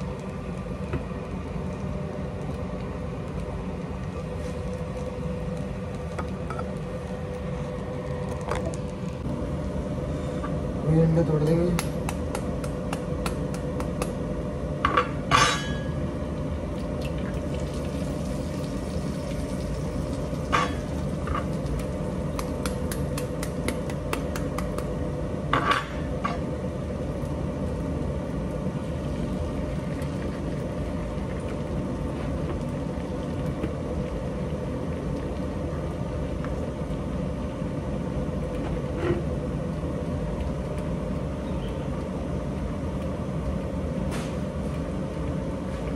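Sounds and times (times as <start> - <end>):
steady background hum: 0.0 - 45.9.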